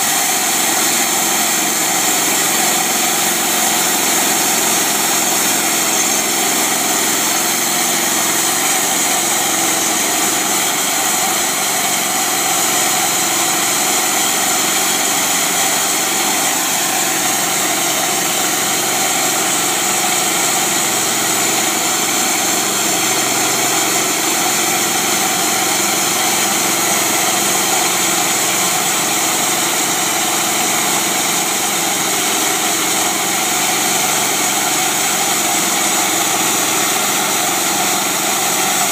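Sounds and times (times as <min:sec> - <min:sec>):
band blade cutting log: 0:00.0 - 0:38.9
small engine running under load: 0:00.0 - 0:38.9.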